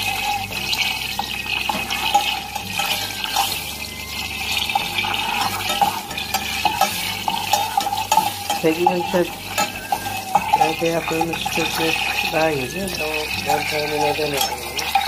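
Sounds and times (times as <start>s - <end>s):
butter sizzling in a pan: 0.0s - 15.0s
spoon scraping a pan: 0.0s - 15.0s.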